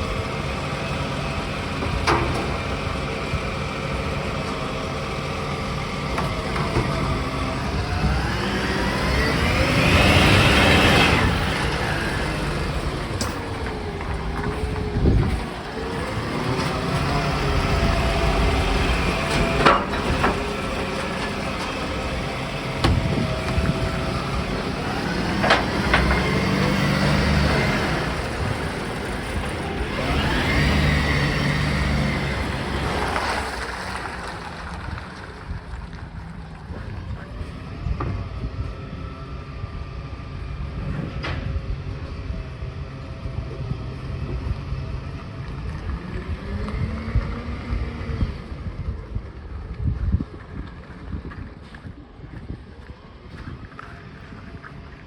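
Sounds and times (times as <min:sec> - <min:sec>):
garbage truck engine running: 0:00.0 - 0:55.0.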